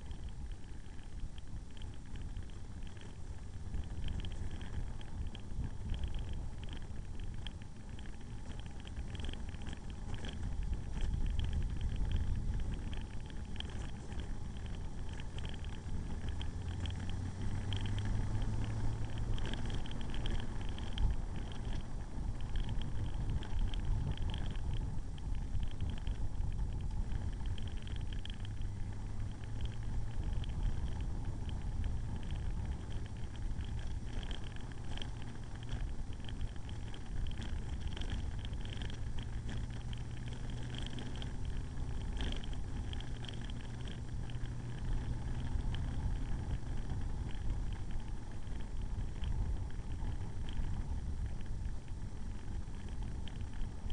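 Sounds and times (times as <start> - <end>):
motorcycle engine running: 0.0 - 53.9
wind rumble on microphone: 0.0 - 53.9.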